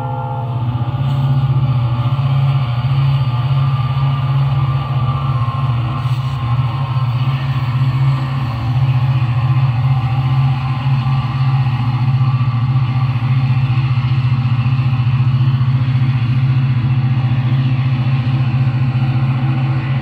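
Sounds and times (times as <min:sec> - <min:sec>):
model locomotive engine drone: 0:00.0 - 0:20.0.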